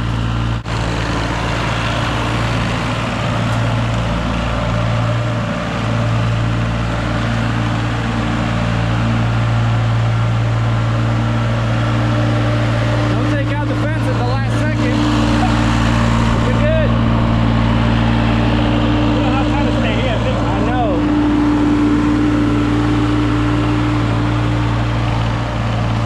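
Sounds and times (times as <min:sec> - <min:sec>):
loader engine humming: 0:00.0 - 0:26.0.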